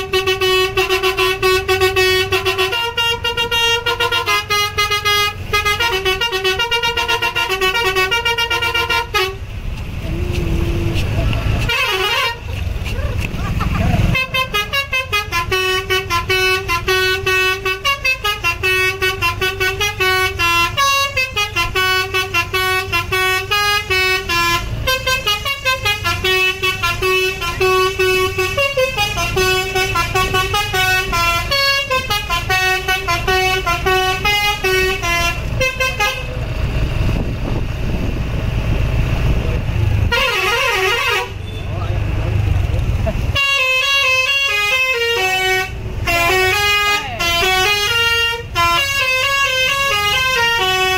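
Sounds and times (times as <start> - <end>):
multi-tone bus horn melody: 0.0 - 9.5, 10.3 - 12.8, 14.0 - 38.1, 40.0 - 41.8, 43.3 - 50.9
bus engine running: 0.0 - 50.9.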